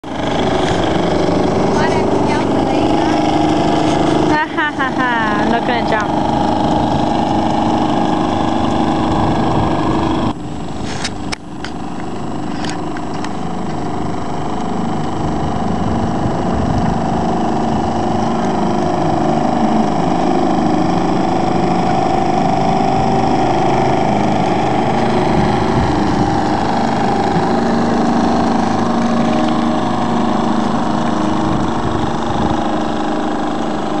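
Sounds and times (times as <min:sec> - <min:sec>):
engine humming steadily: 0:00.0 - 0:34.0.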